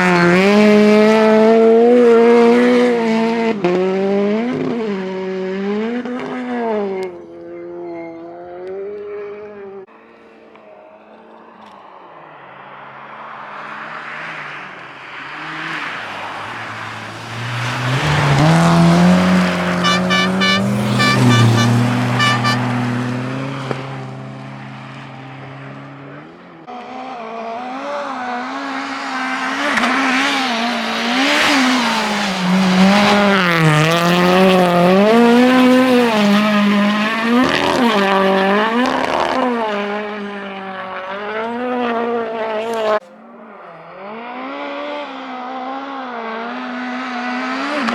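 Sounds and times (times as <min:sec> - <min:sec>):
rally car engines racing past: 0:00.0 - 0:47.9.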